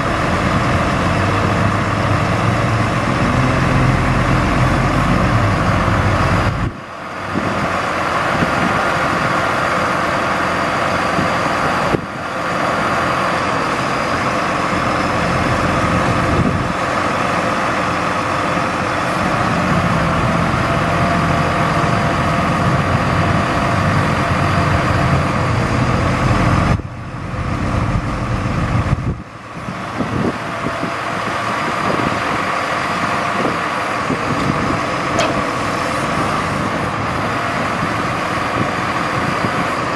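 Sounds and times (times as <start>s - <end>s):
hydraulic high whine: 0.0s - 39.9s
truck engine running: 0.0s - 39.9s.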